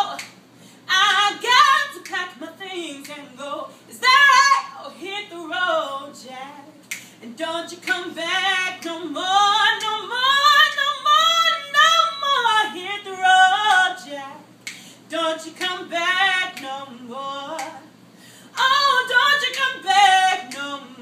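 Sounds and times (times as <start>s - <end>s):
woman singing unaccompanied: 0.0s - 0.3s, 0.9s - 14.5s, 15.1s - 21.0s.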